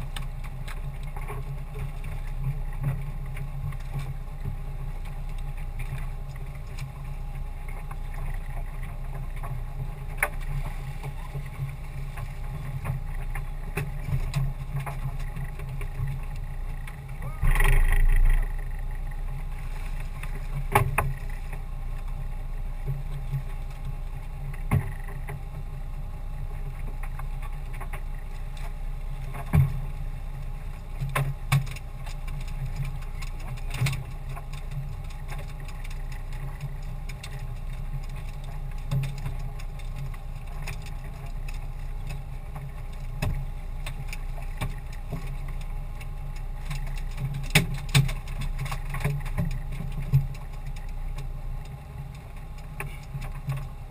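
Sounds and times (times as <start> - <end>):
low rumble: 0.0 - 47.2
water slapping boat hull: 0.0 - 53.9.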